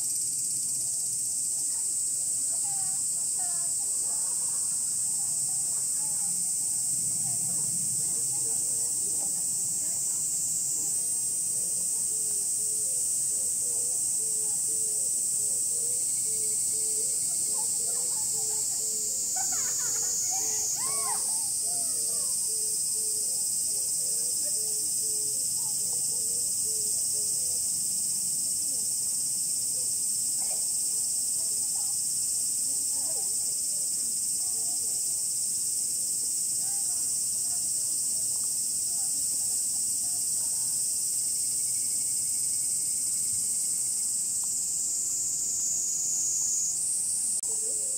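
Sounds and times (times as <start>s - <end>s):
cicadas buzzing: 0.0s - 47.9s.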